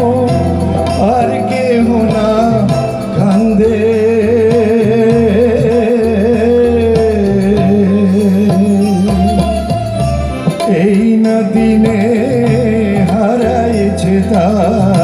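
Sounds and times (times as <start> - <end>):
bass guitar: 0.0 - 15.0
keyboard: 0.0 - 15.0
live band playing: 0.0 - 15.0
tabla: 0.0 - 15.0.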